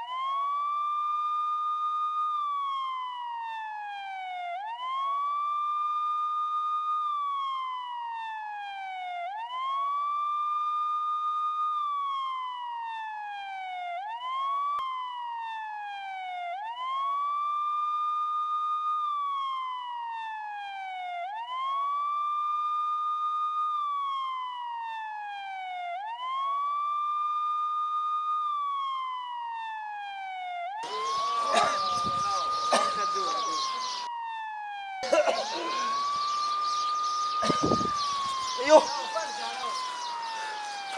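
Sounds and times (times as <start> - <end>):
siren wailing: 0.0 - 40.9.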